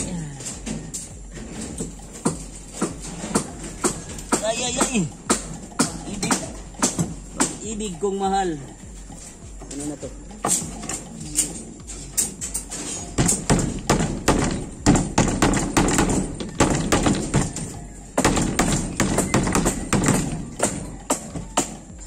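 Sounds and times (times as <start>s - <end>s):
hammer striking steel mesh: 0.0s - 8.1s, 10.4s - 22.0s.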